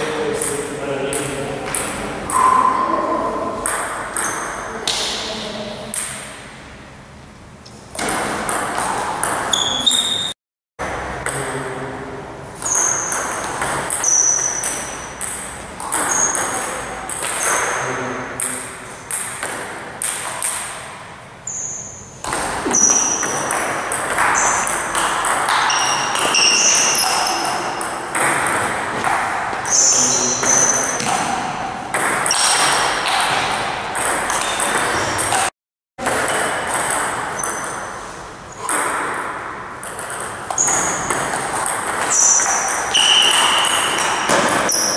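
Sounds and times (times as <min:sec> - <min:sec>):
table tennis ball pinging: 0:00.3 - 0:05.2, 0:05.9 - 0:06.6, 0:07.9 - 0:11.5, 0:12.6 - 0:44.9.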